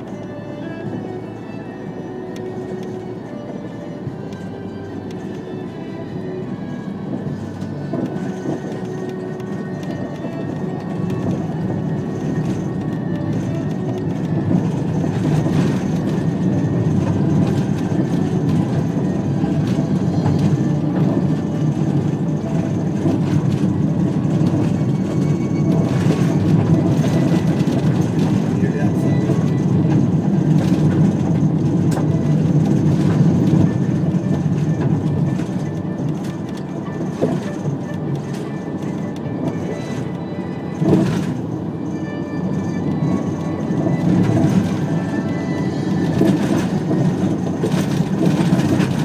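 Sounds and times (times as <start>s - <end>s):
engine rumbling steadily: 0.0s - 49.0s.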